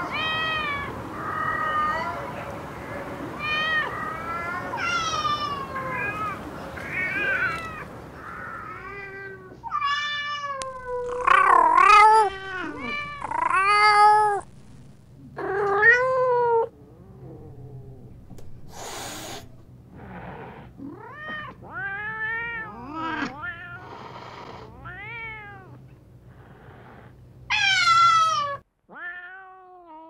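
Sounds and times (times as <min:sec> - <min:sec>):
cats meowing: 0:00.0 - 0:30.0.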